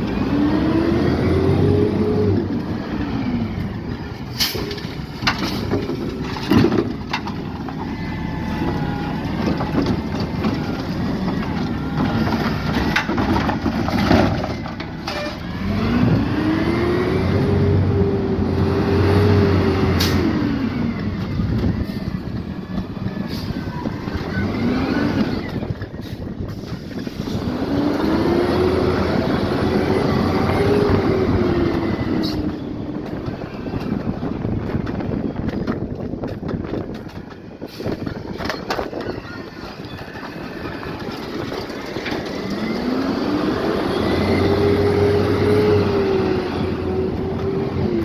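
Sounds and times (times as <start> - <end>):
garbage truck engine revving: 0.0 - 36.4, 37.6 - 48.0.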